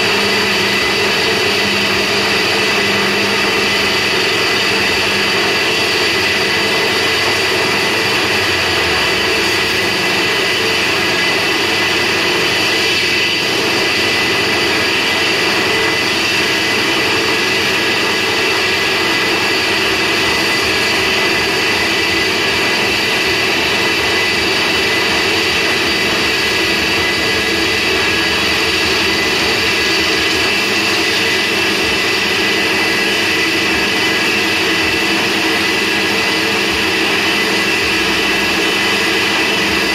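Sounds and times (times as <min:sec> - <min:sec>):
band saw whine and hum: 0:00.0 - 0:39.9.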